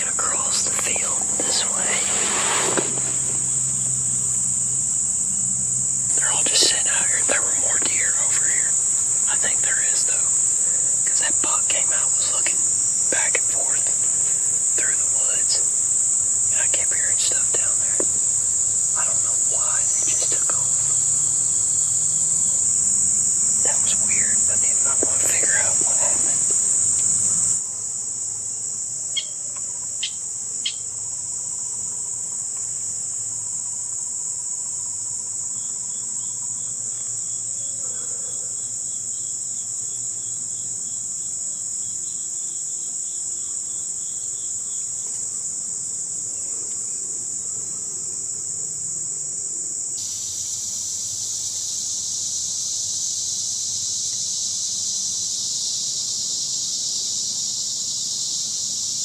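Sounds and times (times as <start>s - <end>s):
crickets chirping: 0.0s - 59.0s
pulsing insect trill: 0.0s - 59.0s.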